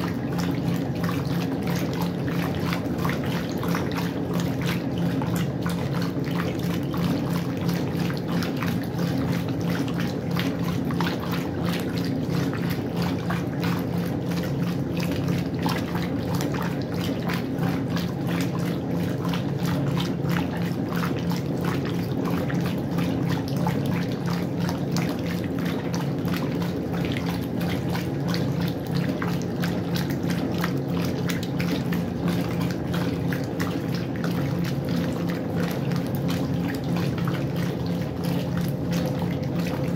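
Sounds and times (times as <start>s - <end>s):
washing machine motor hum: 0.0s - 39.9s
water splashing and churning: 0.0s - 39.9s.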